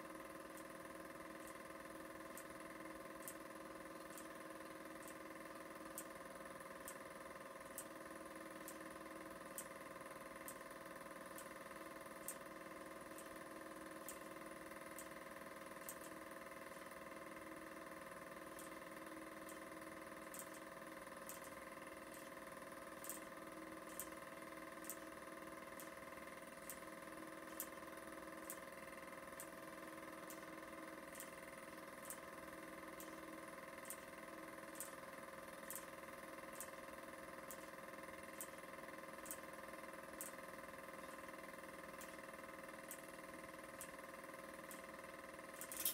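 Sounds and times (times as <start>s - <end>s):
film projector humming: 0.0s - 45.9s
projector ticking: 0.0s - 45.9s.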